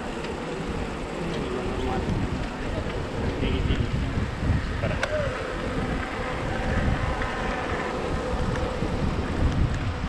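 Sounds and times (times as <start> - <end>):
wind buffeting the microphone: 0.0 - 10.0.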